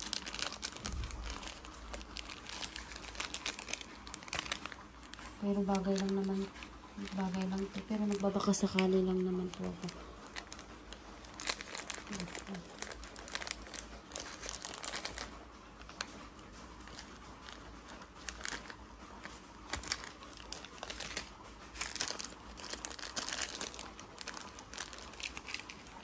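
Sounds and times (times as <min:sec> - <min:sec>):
plastic and paper rustling: 0:00.0 - 0:26.0.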